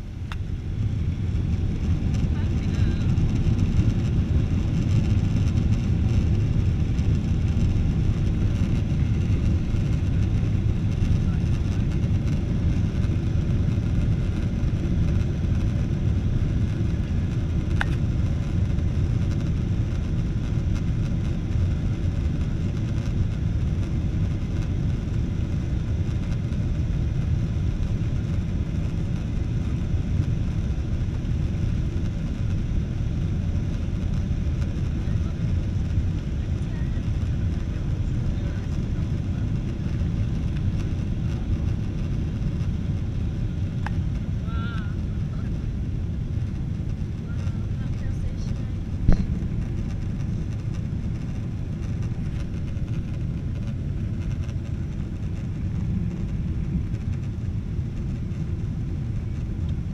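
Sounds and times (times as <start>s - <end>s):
jet engines low rumble: 0.0s - 59.9s.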